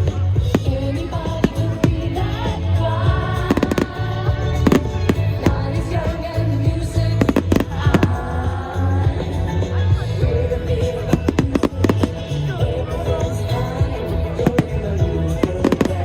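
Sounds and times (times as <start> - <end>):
pop music with singing: 0.0 - 16.0.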